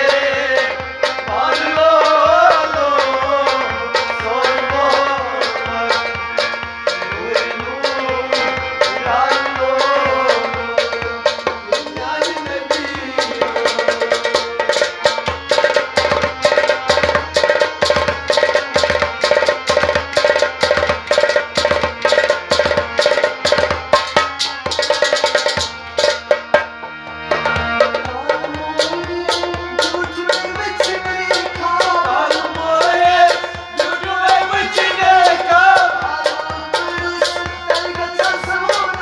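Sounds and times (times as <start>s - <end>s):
goblet drum played by hand: 0.0s - 39.0s
harmonium sustained notes: 0.0s - 39.0s.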